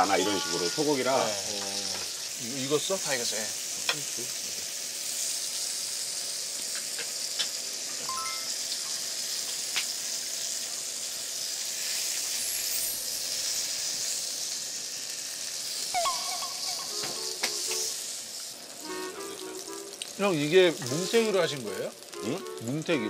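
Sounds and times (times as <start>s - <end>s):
meat sizzling in a grill pan: 0.0s - 23.0s.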